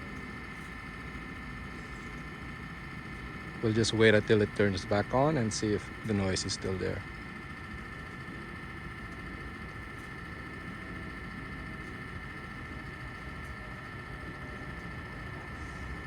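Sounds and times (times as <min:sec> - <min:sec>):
faint high whines: 0:00.0 - 0:16.0.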